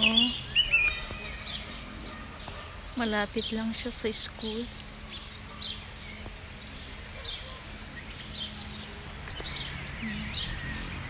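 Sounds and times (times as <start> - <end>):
small songbirds chirping: 0.0 - 11.0.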